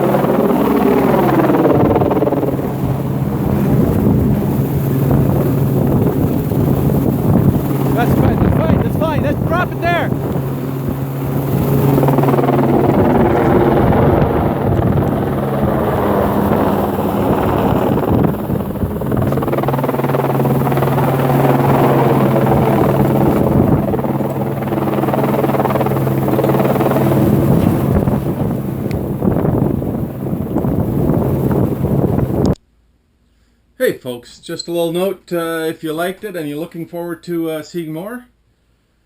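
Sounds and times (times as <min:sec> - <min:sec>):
helicopter drone: 0:00.0 - 0:32.6.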